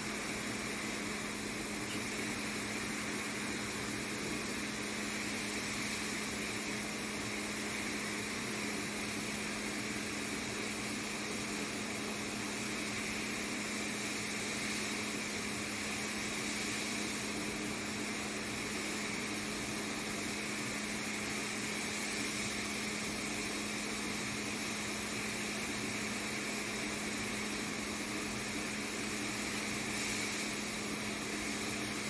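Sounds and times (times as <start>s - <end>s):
steady mechanical hum with hiss: 0.0s - 32.0s.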